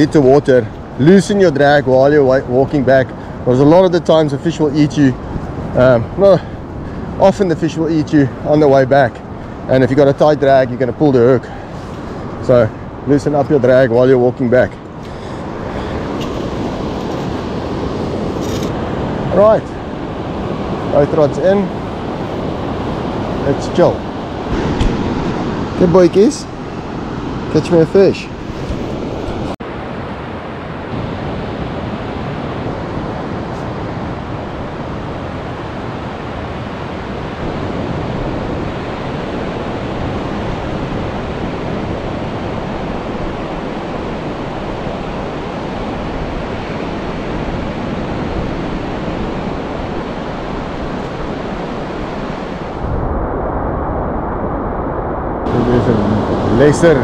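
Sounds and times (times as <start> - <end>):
surf washing onto beach: 0.0 - 57.0
wind rumbling on microphone: 0.0 - 57.0.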